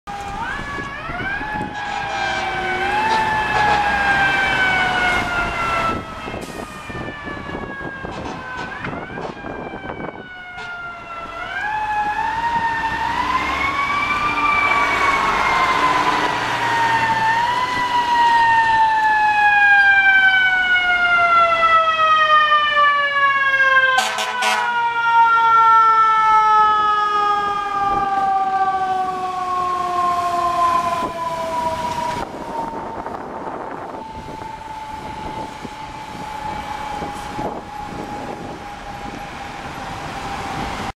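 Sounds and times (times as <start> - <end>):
mechanical siren wailing: 0.1 - 40.9.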